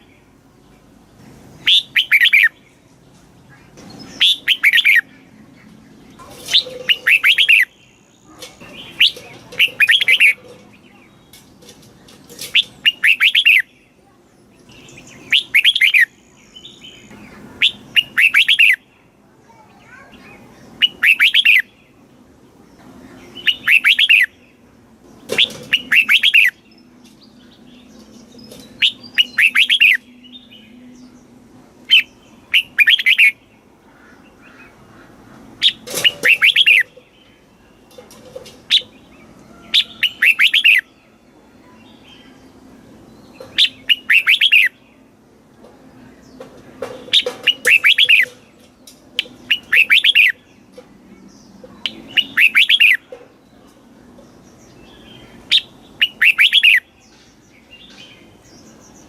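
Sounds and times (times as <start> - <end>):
bird warbling song: 0.0 - 59.0.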